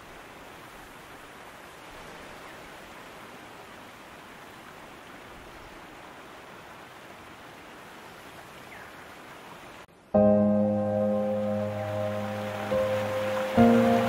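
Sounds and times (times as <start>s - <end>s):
river water rushing over weir: 0.0s - 14.0s.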